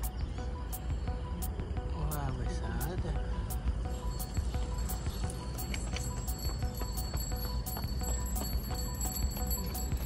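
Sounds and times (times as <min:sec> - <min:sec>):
music with ticking beat: 0:00.0 - 0:10.0.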